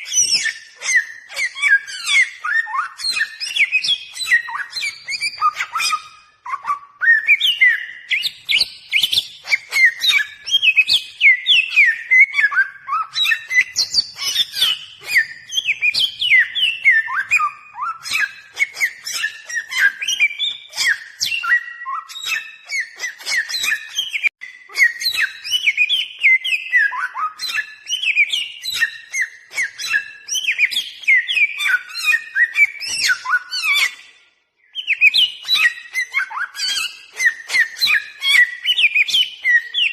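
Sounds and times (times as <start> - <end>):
bird song of whistled notes: 0.0 - 39.9.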